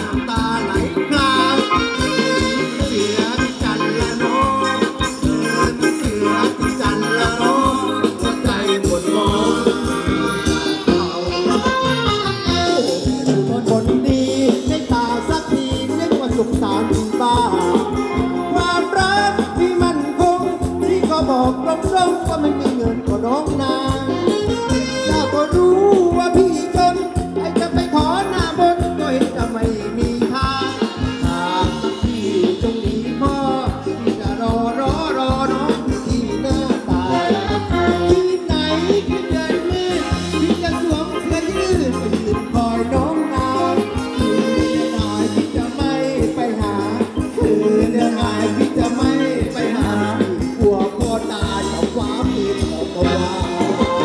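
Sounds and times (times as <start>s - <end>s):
live band dance music: 0.0s - 54.0s
person singing: 0.0s - 54.0s
steady drum beat: 0.0s - 54.0s.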